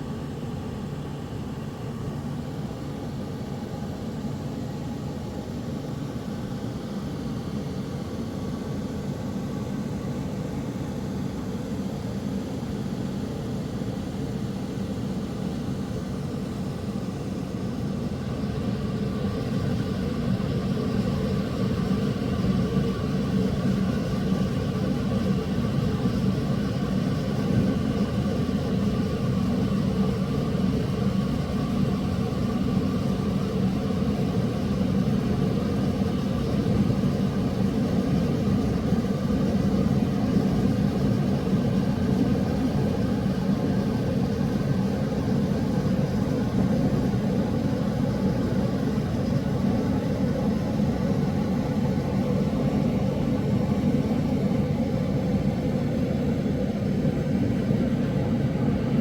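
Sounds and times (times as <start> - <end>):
faint hum: 0.0 - 59.0.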